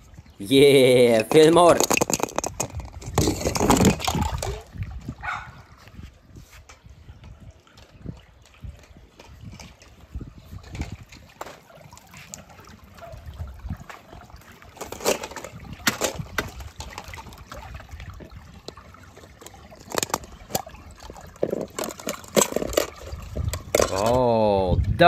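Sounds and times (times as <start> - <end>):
pool water sloshing: 0.0 - 24.4
water trickling: 0.0 - 25.0.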